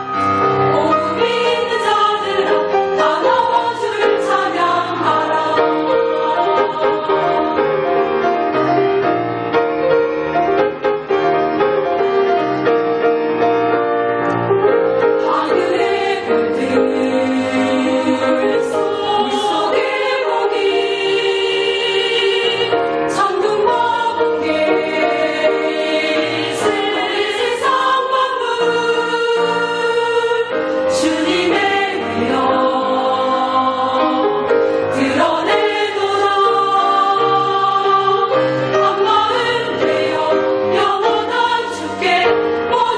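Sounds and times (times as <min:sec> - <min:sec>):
choir singing a hymn: 0:00.0 - 0:09.3, 0:15.0 - 0:42.9.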